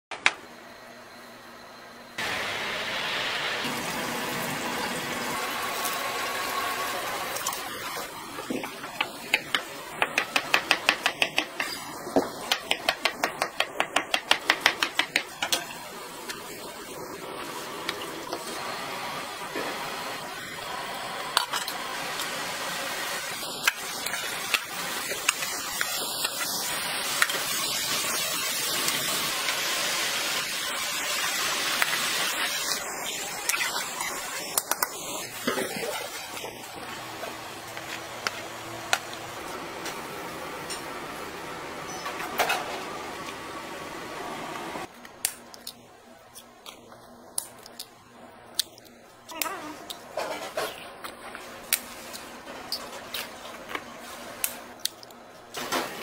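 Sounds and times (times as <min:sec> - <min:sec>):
cooking hiss: 0:02.2 - 0:45.8, 0:46.4 - 0:56.0.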